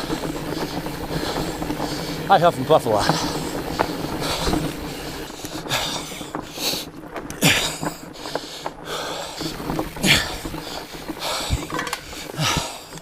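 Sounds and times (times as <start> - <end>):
bike rattling over rocks: 0.0 - 13.0
person breathing hard: 0.2 - 2.3, 3.0 - 13.0.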